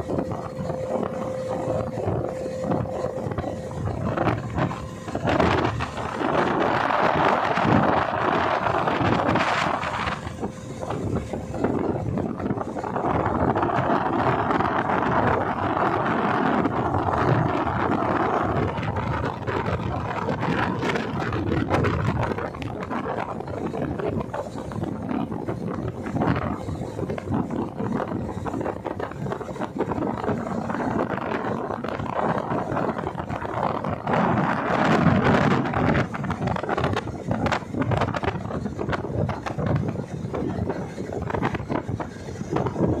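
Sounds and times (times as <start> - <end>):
boat engine drone: 0.0 - 43.0
water rushing along hull: 0.0 - 43.0
wind buffeting microphone: 0.0 - 43.0.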